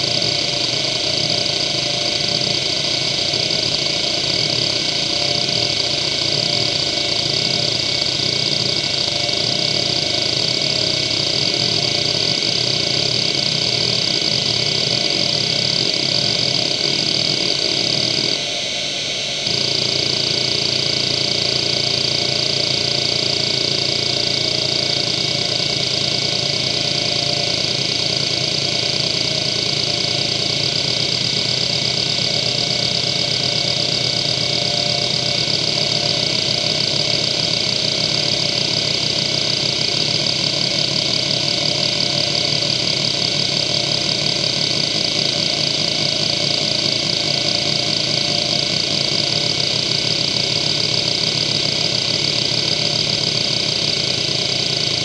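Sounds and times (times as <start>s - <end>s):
high spindle whine: 0.0s - 55.0s.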